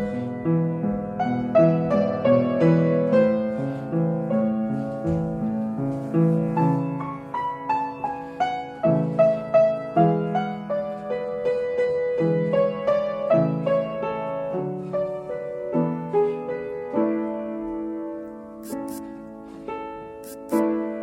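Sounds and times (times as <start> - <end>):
slow piano accompaniment: 0.0 - 21.0.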